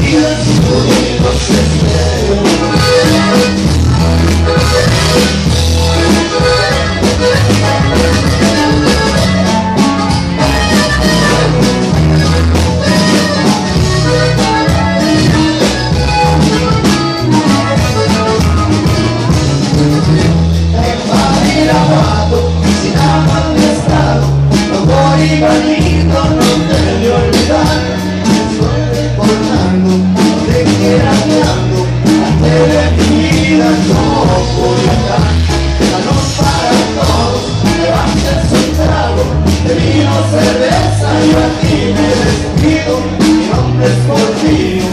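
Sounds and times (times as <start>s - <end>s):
accordion: 0.0s - 44.9s
drums with steady beat: 0.0s - 44.9s
electric bass: 0.0s - 44.9s.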